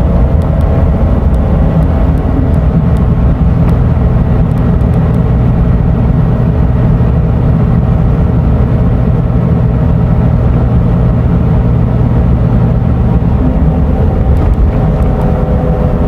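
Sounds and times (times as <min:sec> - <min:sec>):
diesel coach engine droning: 0:00.0 - 0:16.0.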